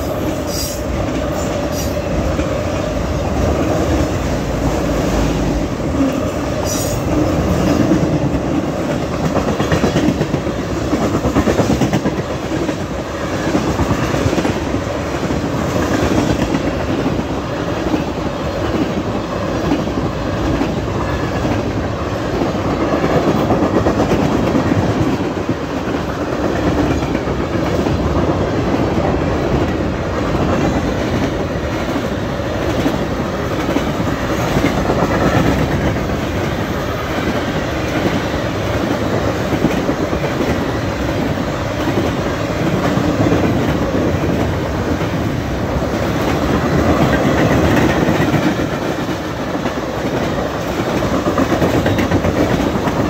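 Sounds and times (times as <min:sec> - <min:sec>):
freight train rumbling past: 0:00.0 - 0:53.0
wheels clickety-clacking: 0:06.0 - 0:53.0.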